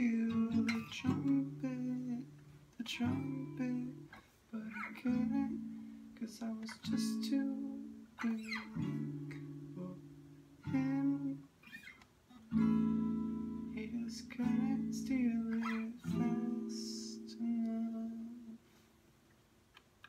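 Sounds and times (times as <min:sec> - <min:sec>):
acoustic guitar strummed chords: 0:00.0 - 0:04.2, 0:04.9 - 0:11.6, 0:12.4 - 0:18.5.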